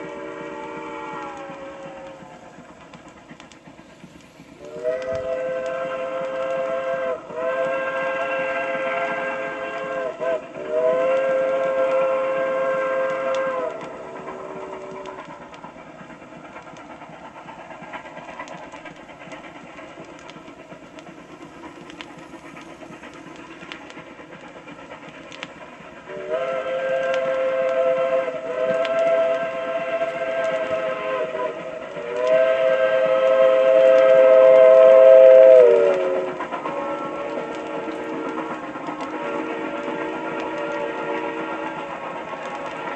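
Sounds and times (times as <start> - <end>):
steam train running: 0.0 - 42.9.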